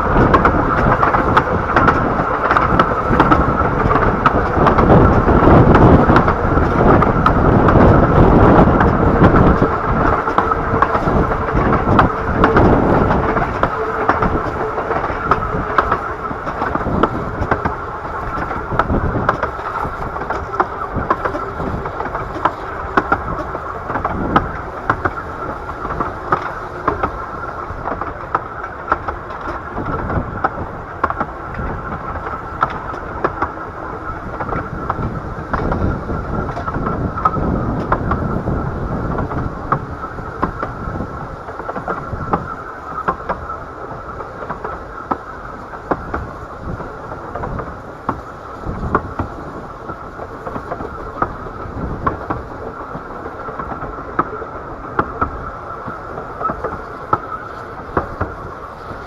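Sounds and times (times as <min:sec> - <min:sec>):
train rumbling: 0:00.0 - 0:59.0
wheels clattering on track: 0:00.0 - 0:59.0.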